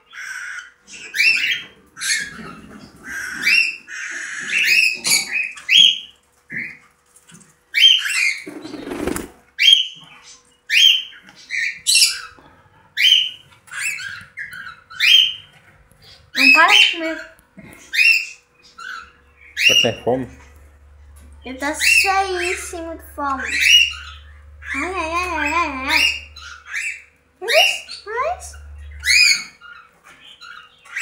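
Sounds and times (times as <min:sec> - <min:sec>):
pet birds calling: 0:00.0 - 0:31.0.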